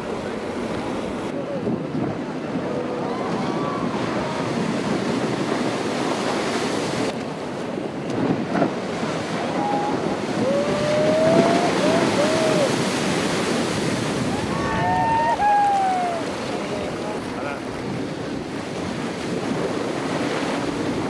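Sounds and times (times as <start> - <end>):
heavy ocean waves breaking: 0.0 - 21.0.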